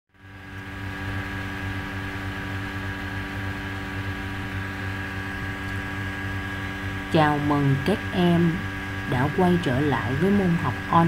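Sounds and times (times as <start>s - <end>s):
steady tonal hum: 0.2s - 11.0s.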